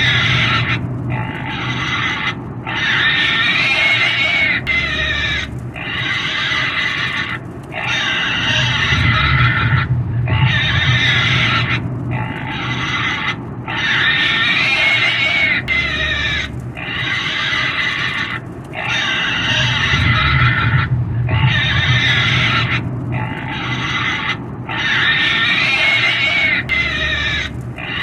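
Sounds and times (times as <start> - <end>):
pig squealing: 0.0 - 28.0.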